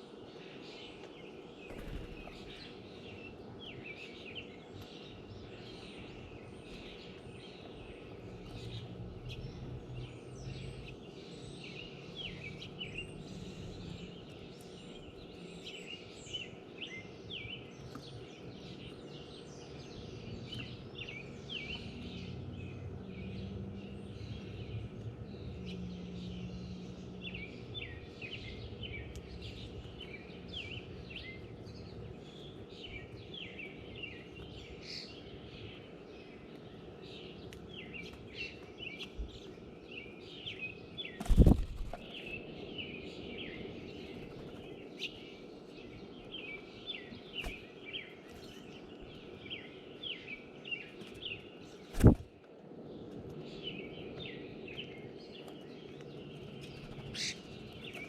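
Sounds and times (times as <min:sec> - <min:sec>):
outdoor background noise: 0:00.0 - 0:58.0
songbirds chirping: 0:00.0 - 0:58.0.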